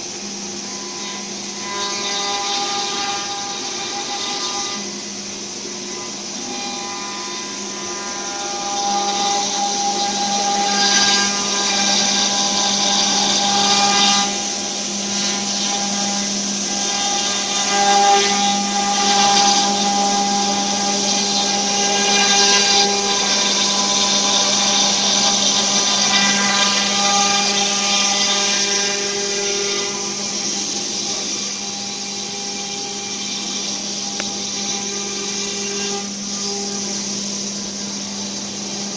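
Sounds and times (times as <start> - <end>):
bit cutting wood: 0.0 - 37.5
router spindle whining: 0.0 - 38.9.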